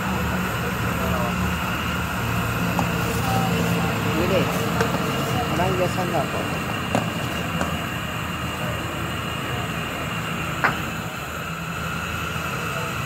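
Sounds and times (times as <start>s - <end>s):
gas stove burner roaring: 0.0s - 13.0s.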